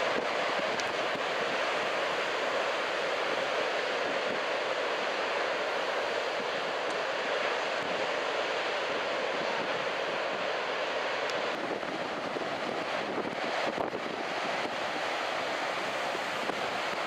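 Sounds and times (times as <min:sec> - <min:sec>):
ocean waves breaking: 0:00.0 - 0:17.0
wind rushing over microphone: 0:00.0 - 0:17.0.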